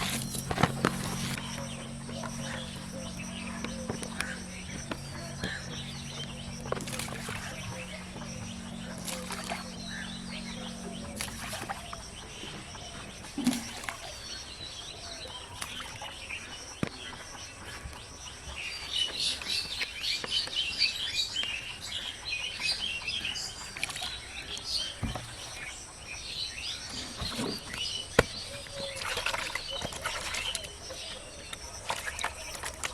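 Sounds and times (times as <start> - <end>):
birds chirping: 0.0 - 32.9
outdoor background noise: 0.0 - 32.9.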